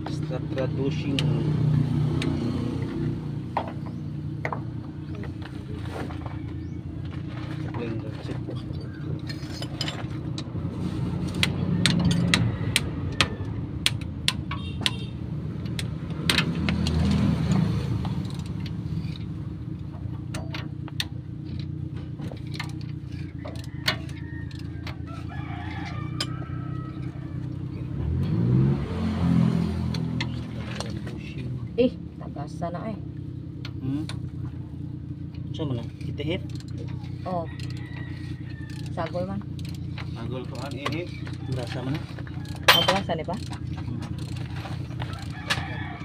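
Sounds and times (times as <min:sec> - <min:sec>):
engine running and revving: 0:00.0 - 0:46.0.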